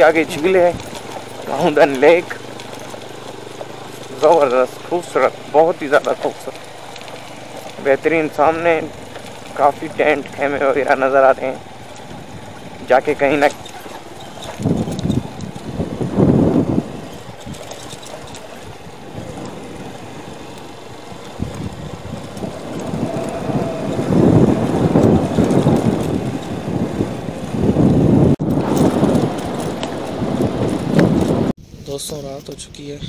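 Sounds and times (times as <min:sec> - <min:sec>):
motorcycle engine: 0:00.0 - 0:32.6
road and wind noise: 0:00.0 - 0:33.0.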